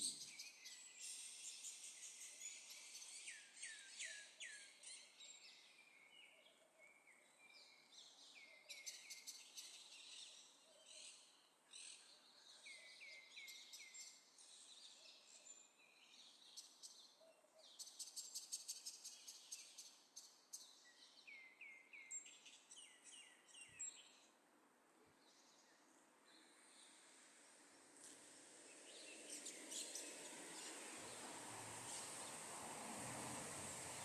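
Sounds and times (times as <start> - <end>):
songbirds singing: 0.0 - 24.4, 28.6 - 32.6.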